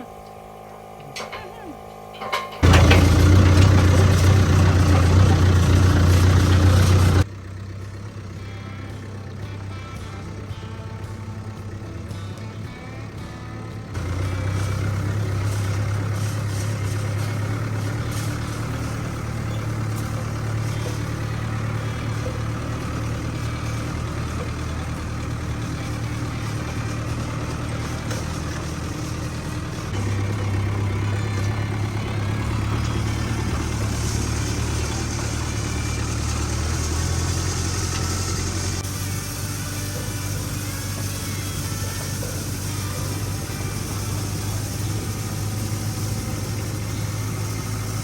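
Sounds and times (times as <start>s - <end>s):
tractor diesel engine humming: 0.0s - 48.0s.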